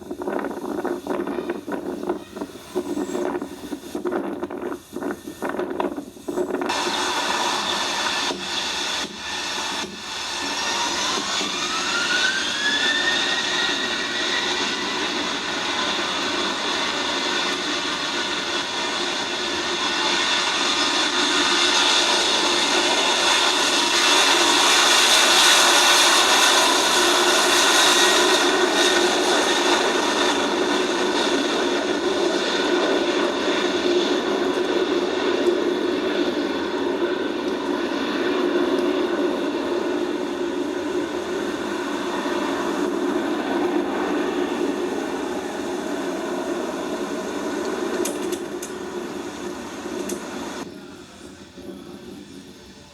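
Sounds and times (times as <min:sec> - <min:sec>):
jet engine noise: 0:00.0 - 0:52.9
jet turbine whine: 0:00.0 - 0:52.9.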